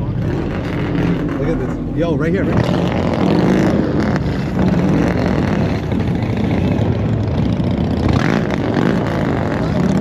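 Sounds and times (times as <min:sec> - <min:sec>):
car engine running low: 0:00.0 - 0:10.0.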